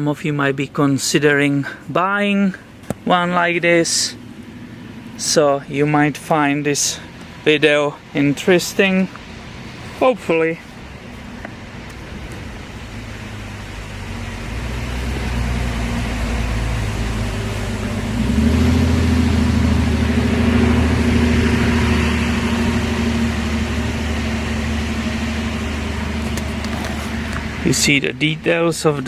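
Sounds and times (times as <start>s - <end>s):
tractor diesel engine idling: 0.0s - 29.0s.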